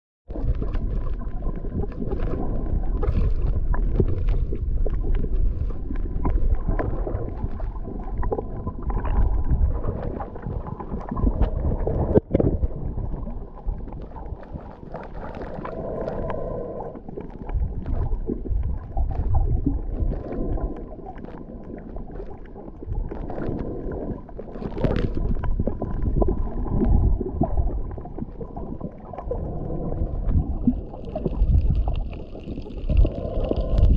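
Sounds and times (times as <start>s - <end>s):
underwater rumbling and sloshing: 0.3s - 33.9s.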